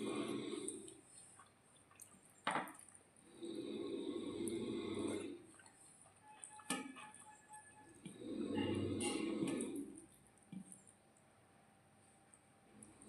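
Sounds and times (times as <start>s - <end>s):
wet rice squishing and chewing: 0.0s - 11.4s.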